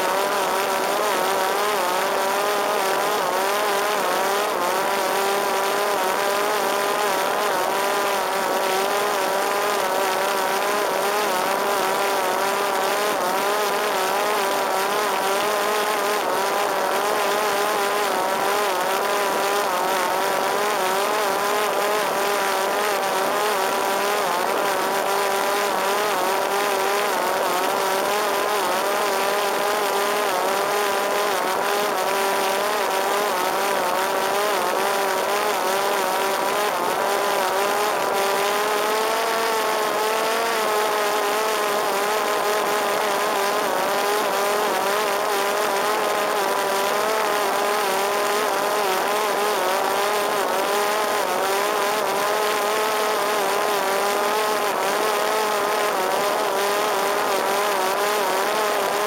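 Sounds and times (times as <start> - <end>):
drone propeller motor whine: 0.0 - 59.0.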